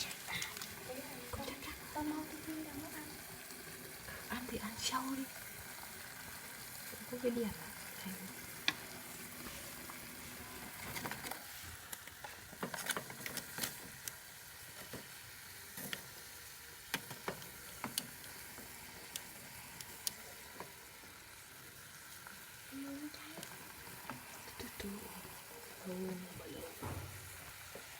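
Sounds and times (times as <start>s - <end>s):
mixture sizzling in a pot: 0.0s - 27.9s.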